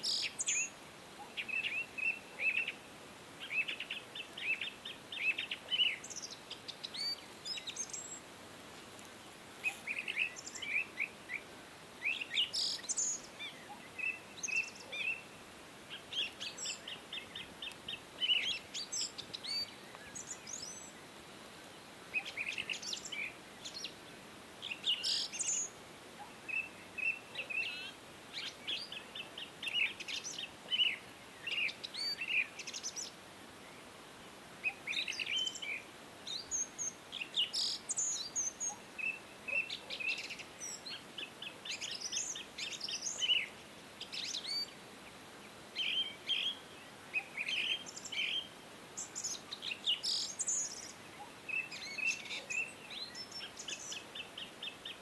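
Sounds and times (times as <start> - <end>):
faint steady hiss: 0.0 - 55.0
small birds chirping and trilling: 0.0 - 55.0.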